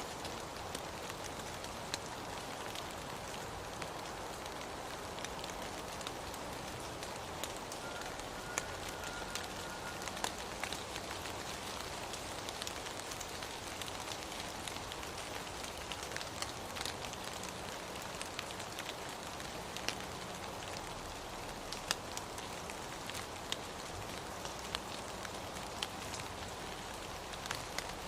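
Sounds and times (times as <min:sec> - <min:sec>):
raindrops ticking on surfaces: 0:00.0 - 0:28.0
steady rain falling: 0:00.0 - 0:28.0.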